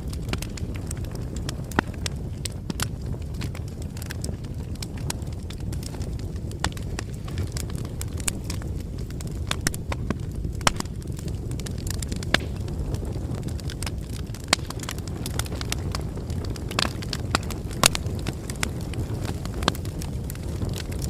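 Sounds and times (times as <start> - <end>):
logs crackling and popping: 0.0 - 21.0
wood fire rumble: 0.0 - 21.0.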